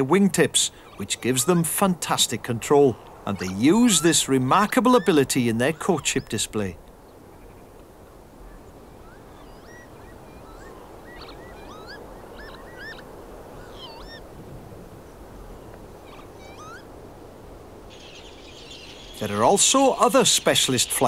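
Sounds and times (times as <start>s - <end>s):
lapwings calling: 0.0s - 7.7s, 8.4s - 14.3s, 16.0s - 16.9s, 17.9s - 21.0s
steady background hiss: 0.0s - 21.0s.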